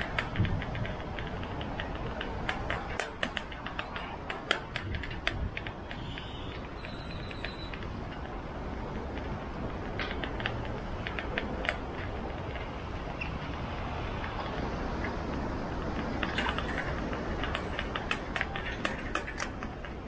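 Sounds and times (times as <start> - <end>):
bicycle road and wind rumble: 0.0 - 20.0.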